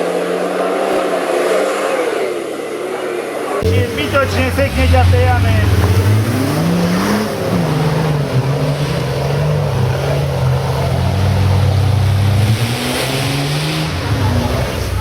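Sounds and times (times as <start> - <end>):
engine revving: 0.0 - 15.0
steady rushing noise: 0.0 - 15.0.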